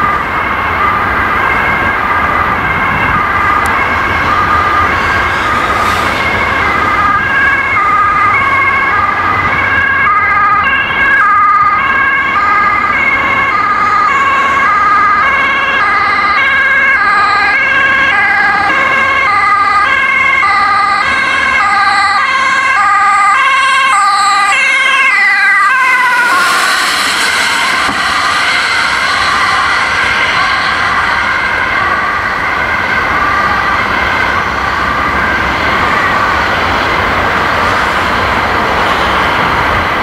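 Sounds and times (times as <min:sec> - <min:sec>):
two-tone ambulance siren: 0:00.0 - 0:40.0.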